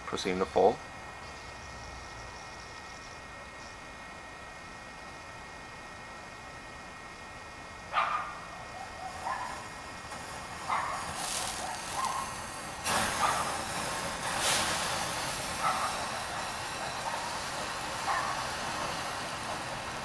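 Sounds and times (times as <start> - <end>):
gas burner hissing: 0.0 - 20.0.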